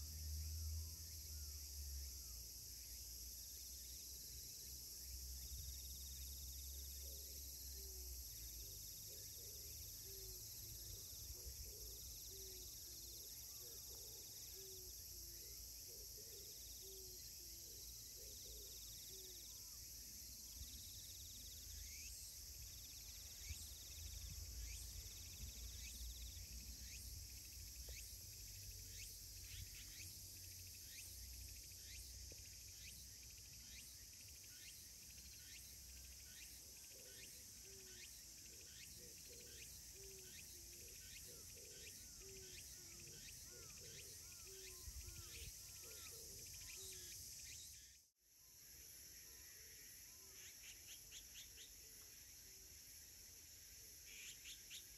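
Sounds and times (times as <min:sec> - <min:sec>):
high insect hiss: 0:00.0 - 0:54.9
short insect chirps: 0:00.0 - 0:54.9.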